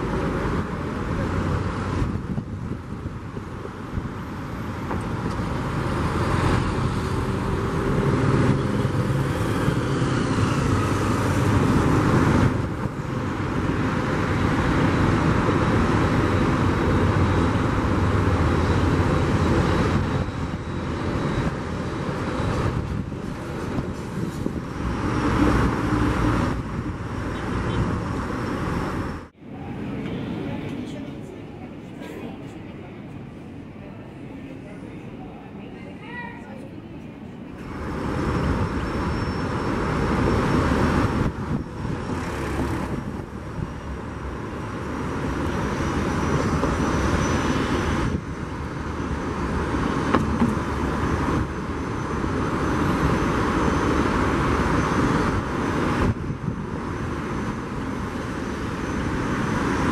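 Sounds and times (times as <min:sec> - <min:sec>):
jet engines running: 0:00.0 - 0:27.2, 0:36.6 - 0:59.9
road traffic: 0:00.0 - 0:59.9.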